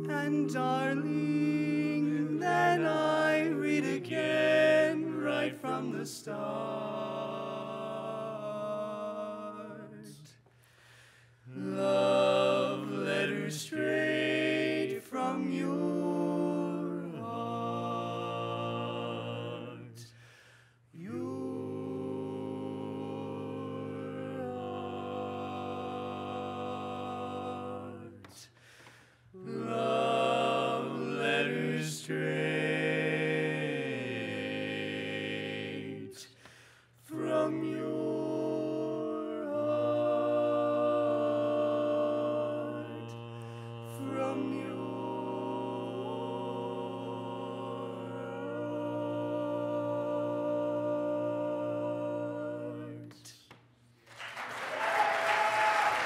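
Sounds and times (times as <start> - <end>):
male quartet singing a cappella: 0.0 - 10.4, 11.4 - 53.6.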